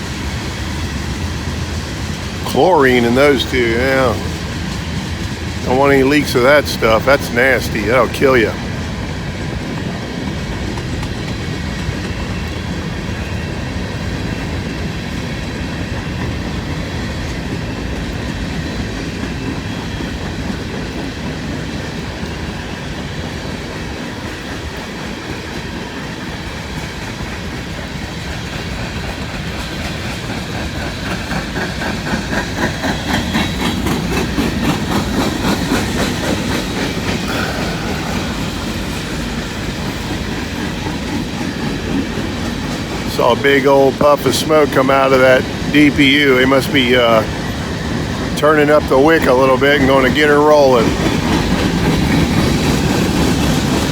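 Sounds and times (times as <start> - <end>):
train rumble and rattle: 0.0 - 53.9
train wheels clicking over rail joints: 0.0 - 53.9.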